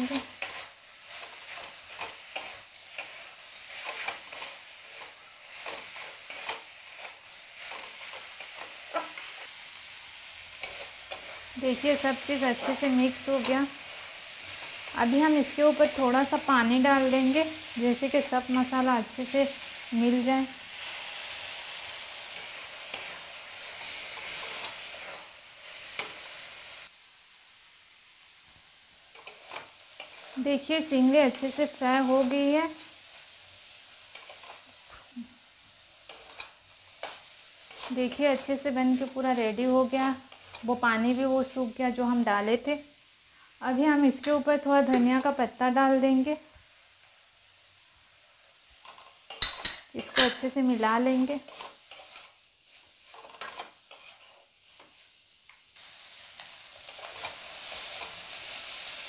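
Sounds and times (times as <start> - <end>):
metal spatula scraping a pan: 0.0 - 26.8, 29.1 - 35.1, 36.0 - 41.3, 48.8 - 55.0, 56.1 - 59.0
prawns sizzling in a pan: 0.0 - 59.0.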